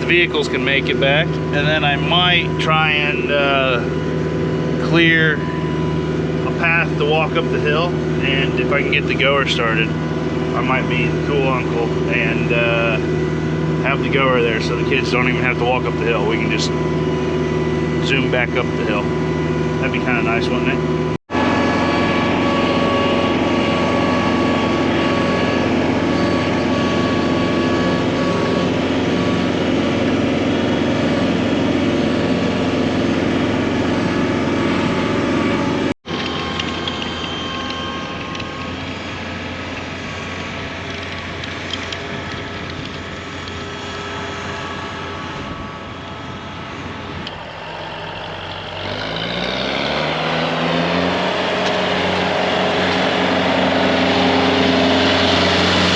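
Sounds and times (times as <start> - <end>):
farm machine engine running: 0.0 - 55.9.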